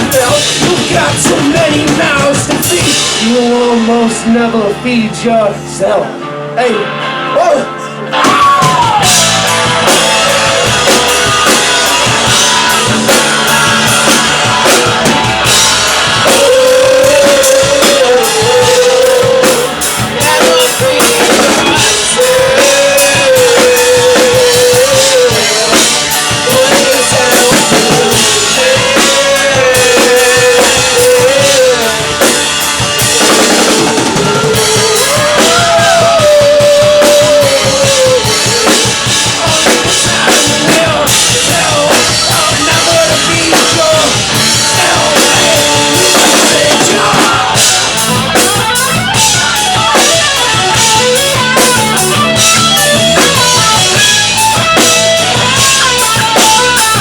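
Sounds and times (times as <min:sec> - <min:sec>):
drum kit beat: 0:00.0 - 0:05.6, 0:07.4 - 0:57.0
guitars: 0:00.0 - 0:57.0.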